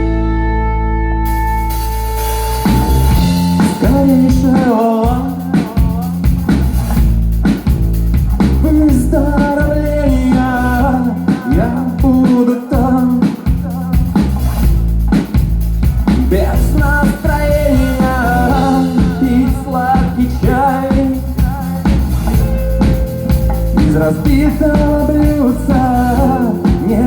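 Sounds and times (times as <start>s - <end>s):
rock song: 0.0s - 27.0s.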